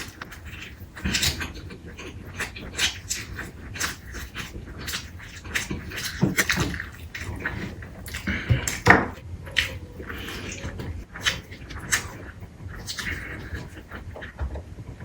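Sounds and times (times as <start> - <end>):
wet chewing and lip smacks: 0.0 - 14.4.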